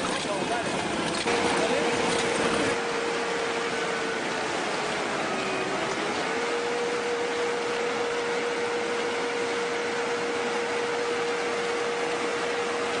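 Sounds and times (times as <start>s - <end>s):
machine whine: 0.0s - 13.0s.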